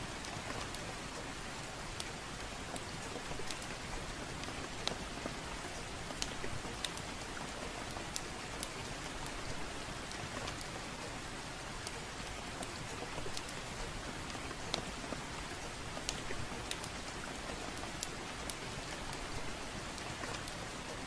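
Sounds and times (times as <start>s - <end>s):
steady soft rain: 0.0s - 21.0s
wood fire popping and crackling: 1.9s - 10.8s, 11.6s - 20.7s.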